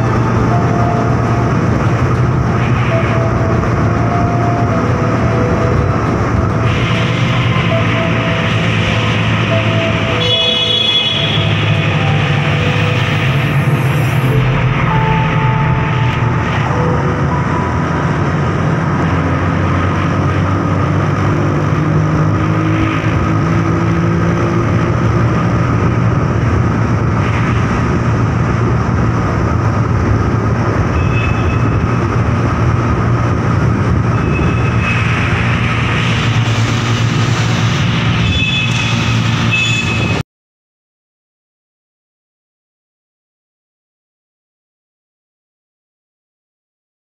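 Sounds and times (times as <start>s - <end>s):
motorcycle engine in tunnel: 0.0s - 40.2s.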